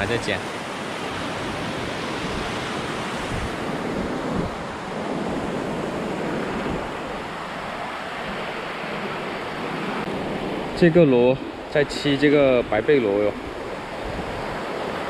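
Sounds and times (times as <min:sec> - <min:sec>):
sea surf washing on shore: 0:00.0 - 0:15.0
wind buffeting microphone: 0:00.0 - 0:15.0.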